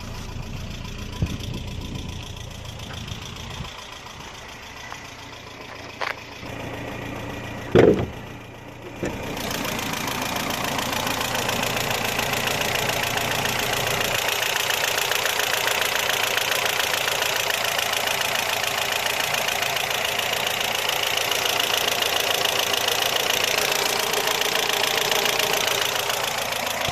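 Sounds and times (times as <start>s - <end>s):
car engine idling with fast ticking: 0.0s - 26.9s.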